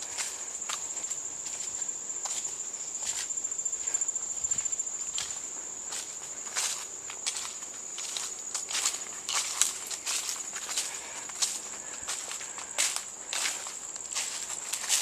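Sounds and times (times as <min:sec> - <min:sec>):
footsteps crunching through leaves: 0:00.0 - 0:15.0
insects droning: 0:00.0 - 0:15.0.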